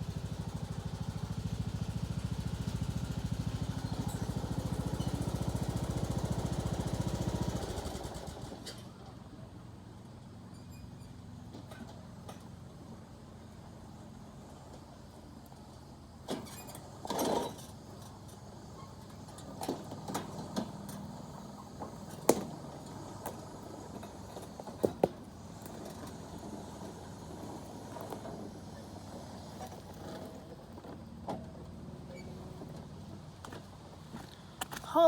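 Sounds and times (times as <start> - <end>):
riding lawnmower engine running: 0.0 - 35.0.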